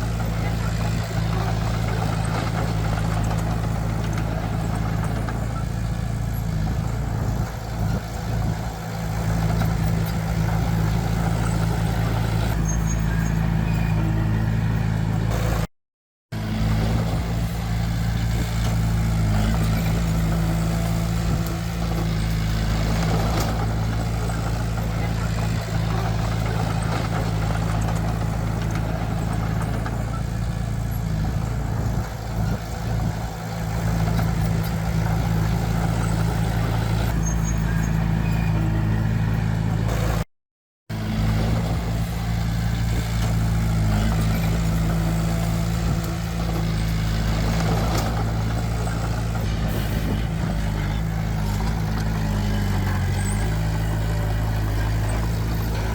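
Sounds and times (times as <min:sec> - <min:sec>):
heavy diesel engine droning: 0:00.0 - 0:15.7, 0:16.3 - 0:40.3, 0:40.9 - 0:55.9.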